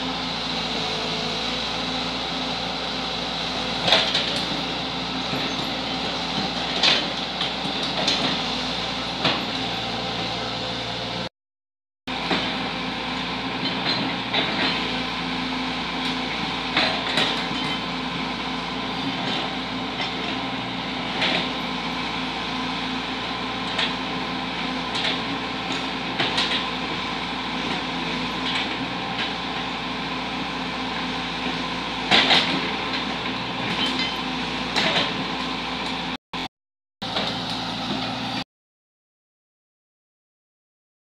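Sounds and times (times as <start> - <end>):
excavator diesel engine running: 0.0 - 11.3, 12.1 - 38.4.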